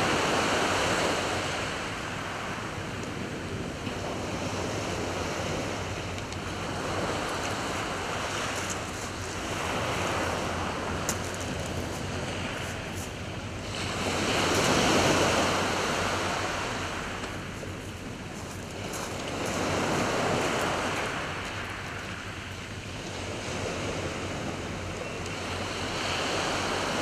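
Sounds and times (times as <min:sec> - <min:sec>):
small waves breaking on beach: 0:00.0 - 0:27.0.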